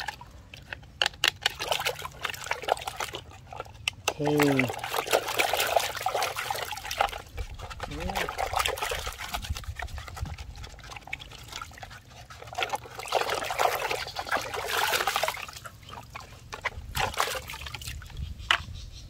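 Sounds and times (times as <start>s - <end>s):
water splashing and trickling: 0.0s - 18.8s.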